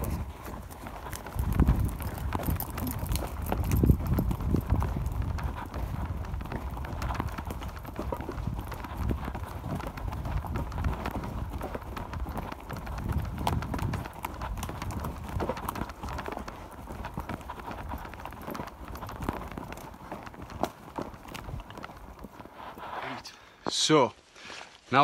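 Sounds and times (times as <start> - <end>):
footfalls running on forest floor: 0.0 - 25.0.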